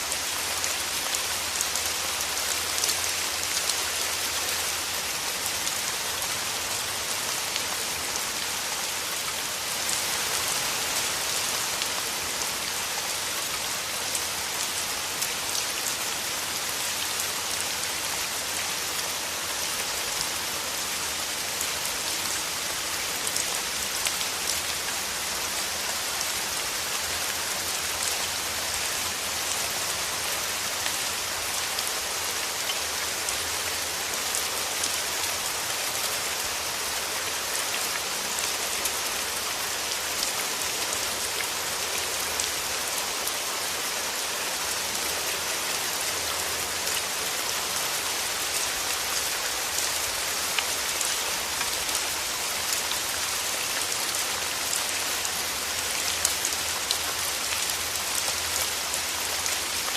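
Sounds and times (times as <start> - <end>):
rain falling through trees: 0.0 - 59.9
raindrops pattering on leaves: 0.0 - 59.9.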